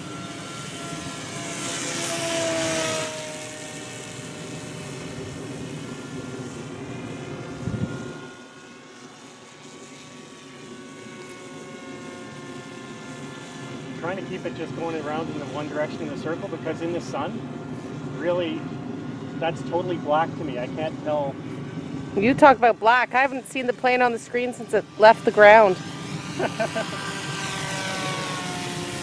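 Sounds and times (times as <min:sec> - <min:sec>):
model plane motor whining: 0:00.0 - 0:29.0.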